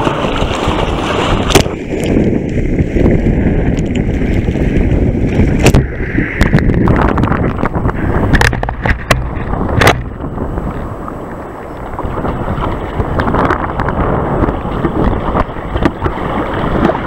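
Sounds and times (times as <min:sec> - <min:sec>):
water splashing from paddling: 0:00.0 - 0:02.7, 0:05.2 - 0:17.0
wind buffeting microphone: 0:00.0 - 0:17.0.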